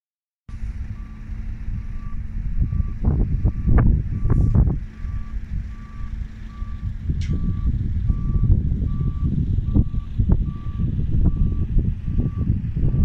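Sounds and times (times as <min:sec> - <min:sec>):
loud low rumble: 0:00.5 - 0:13.0
reversing alarm beeping: 0:00.9 - 0:13.0.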